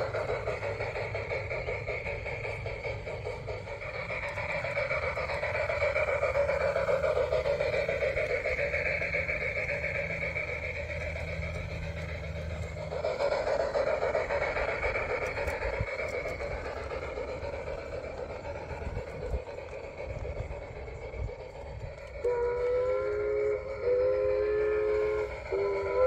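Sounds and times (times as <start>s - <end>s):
model train running noise: 0.0s - 26.0s.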